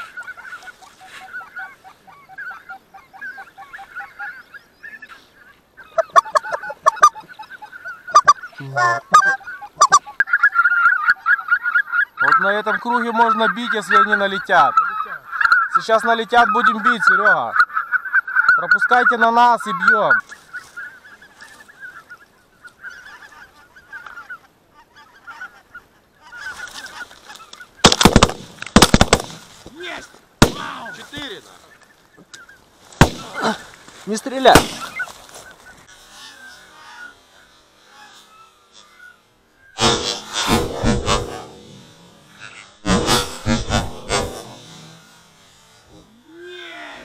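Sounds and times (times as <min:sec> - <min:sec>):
geese calling: 0:00.0 - 0:47.0.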